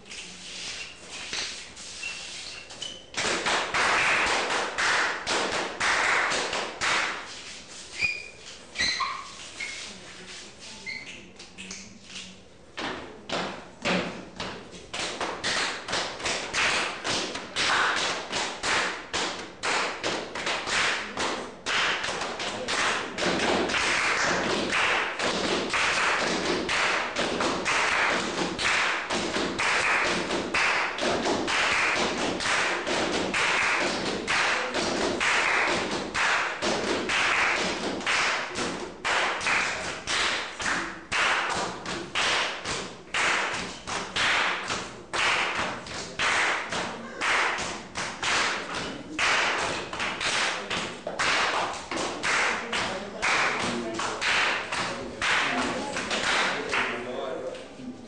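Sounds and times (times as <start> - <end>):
hand claps and body slaps: 0.1 - 1.8, 2.5 - 7.8, 11.4 - 57.0.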